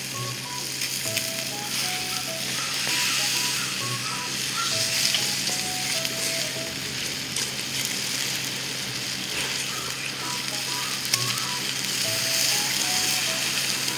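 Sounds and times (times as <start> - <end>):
meat sizzling on a grill: 0.0 - 13.9
simple background tune: 0.0 - 13.9.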